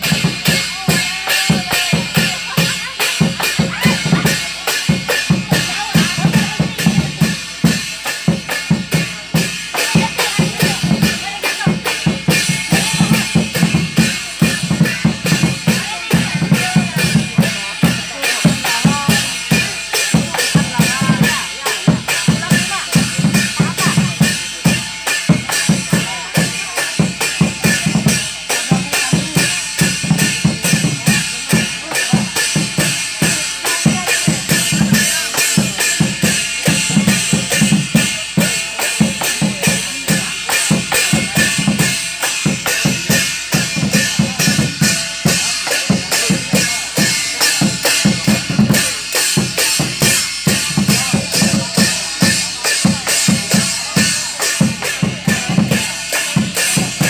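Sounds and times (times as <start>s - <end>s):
fast steady drumbeat: 0.0s - 57.0s.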